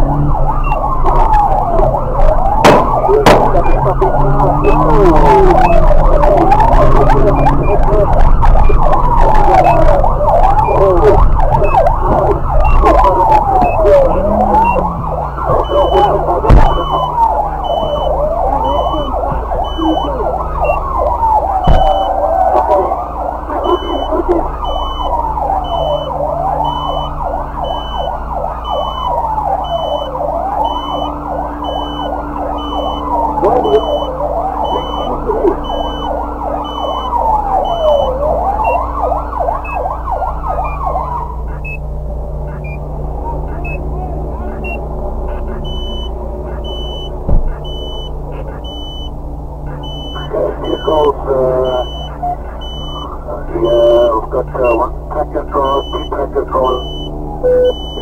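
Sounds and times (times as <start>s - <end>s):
police siren wailing: 0.0s - 58.0s
vehicle engine: 0.0s - 58.0s
high beeps: 2.7s - 9.9s, 10.5s - 21.0s, 21.6s - 22.2s, 23.5s - 38.9s, 42.5s - 42.8s, 43.5s - 43.9s, 44.5s - 58.0s.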